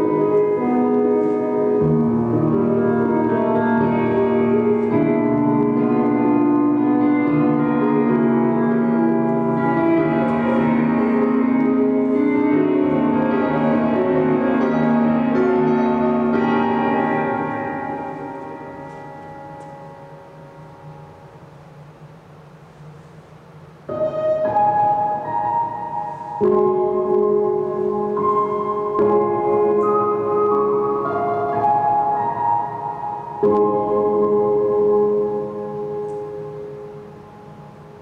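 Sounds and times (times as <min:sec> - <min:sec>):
sustained keyboard chords: 0:00.0 - 0:38.0.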